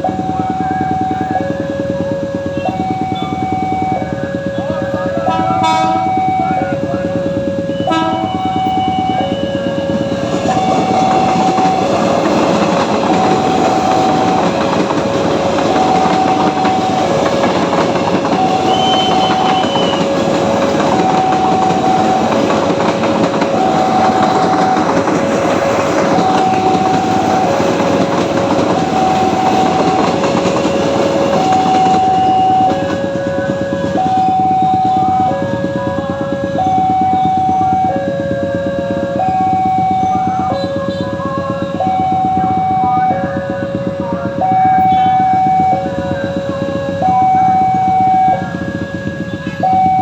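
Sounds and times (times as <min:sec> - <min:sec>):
train wheels clattering on rails: 0:00.0 - 0:50.0
two-tone crossing alarm: 0:00.0 - 0:50.0.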